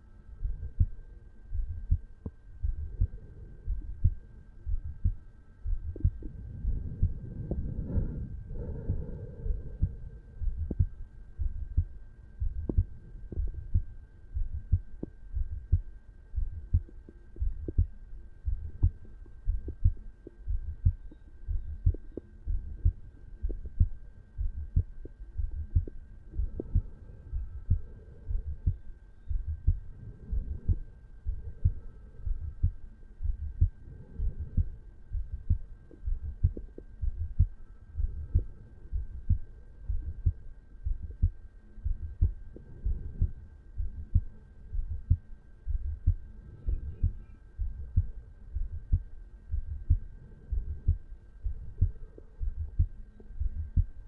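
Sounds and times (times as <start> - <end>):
faint steady hum: 0.0 - 54.0
heartbeat thumps: 0.4 - 54.0.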